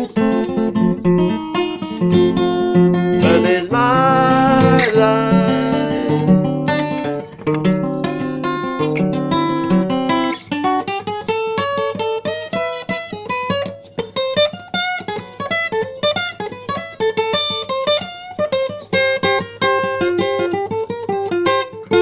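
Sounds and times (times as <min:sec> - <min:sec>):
acoustic guitar picking: 0:00.0 - 0:22.0.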